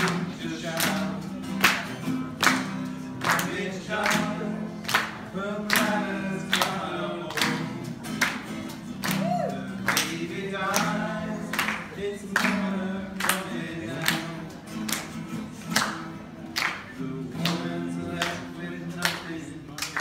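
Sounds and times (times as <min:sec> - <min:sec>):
people singing: 0:00.0 - 0:08.3, 0:09.1 - 0:14.7, 0:16.6 - 0:20.0
strummed acoustic guitar: 0:00.0 - 0:20.0.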